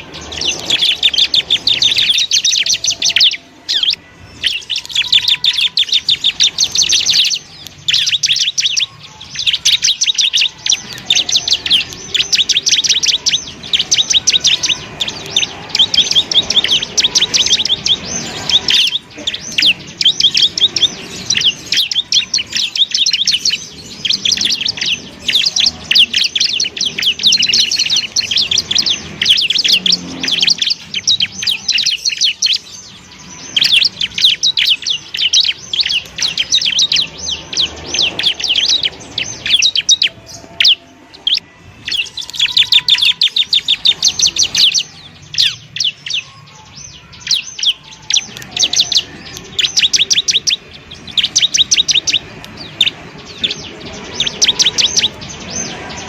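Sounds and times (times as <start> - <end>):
bird singing chirping trills: 0.0 - 56.0.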